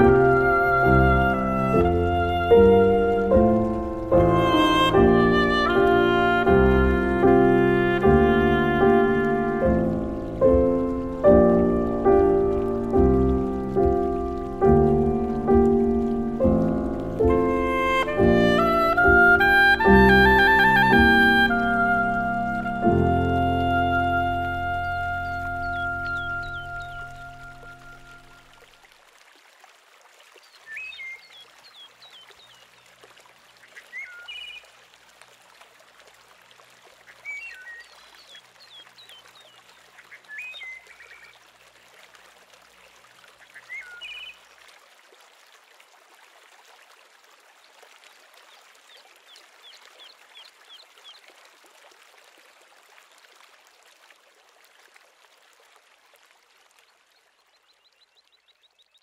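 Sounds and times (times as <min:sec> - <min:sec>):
steady outdoor hiss: 0:00.0 - 0:59.0.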